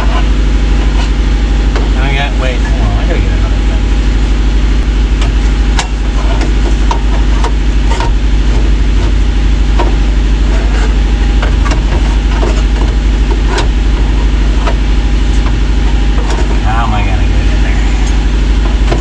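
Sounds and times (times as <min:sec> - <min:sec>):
motor running with low rumble: 0:00.0 - 0:19.0.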